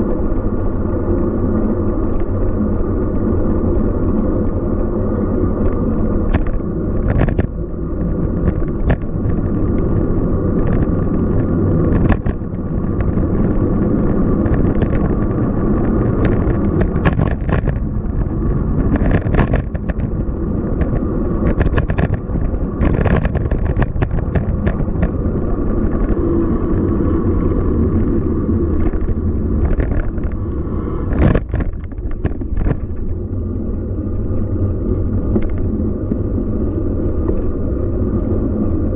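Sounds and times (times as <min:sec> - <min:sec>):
street low rumble: 0:00.0 - 0:38.9.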